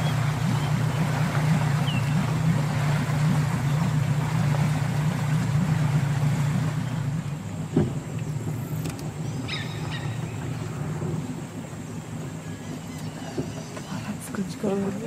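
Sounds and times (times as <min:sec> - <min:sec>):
engine idling low hum: 0:00.0 - 0:15.0.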